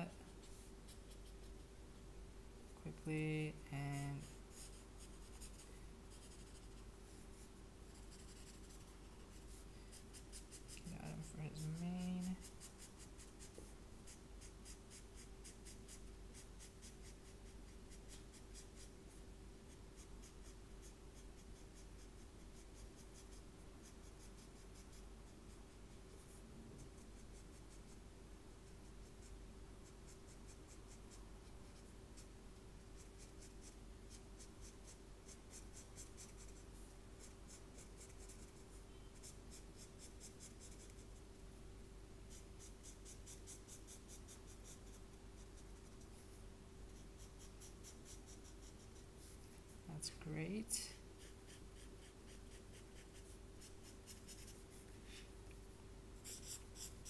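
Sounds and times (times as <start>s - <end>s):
marker scratching on paper: 0.0s - 1.7s, 3.7s - 28.0s, 33.0s - 41.2s, 42.3s - 49.6s, 51.2s - 55.0s, 56.2s - 57.0s
faint steady hum: 0.0s - 57.0s.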